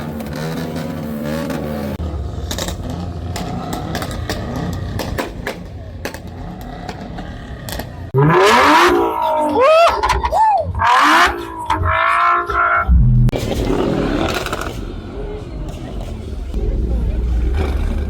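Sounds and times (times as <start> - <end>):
car engines rumbling: 0.0 - 18.0.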